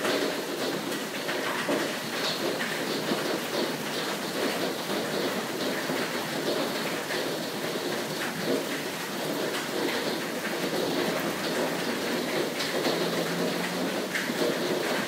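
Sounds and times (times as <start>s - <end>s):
hail clattering on surfaces: 0.0s - 15.0s.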